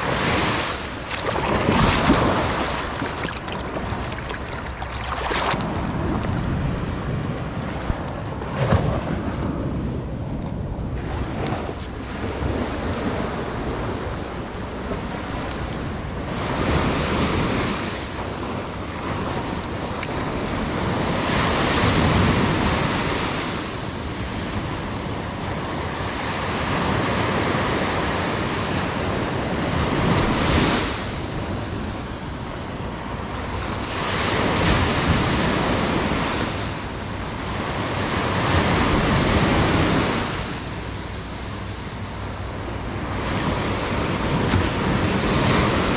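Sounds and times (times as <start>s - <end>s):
waves breaking on beach: 0.0s - 10.1s, 10.9s - 45.9s.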